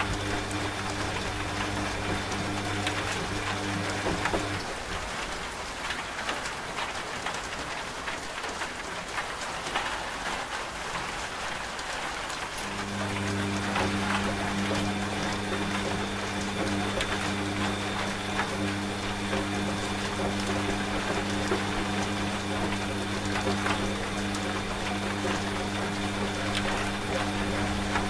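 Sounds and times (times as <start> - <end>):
washing machine humming: 0.0 - 5.9, 11.1 - 28.0
rain with drops ticking: 0.0 - 28.0.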